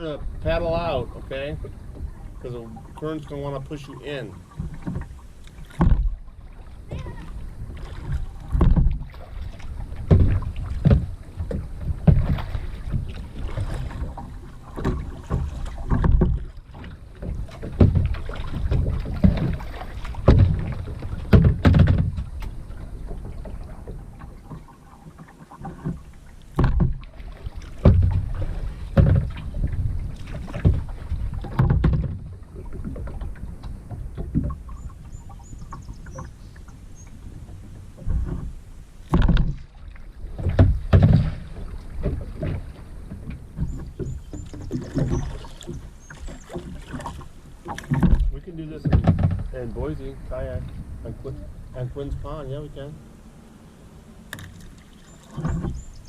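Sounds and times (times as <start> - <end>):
paddle splashing in water: 0.0 - 56.0.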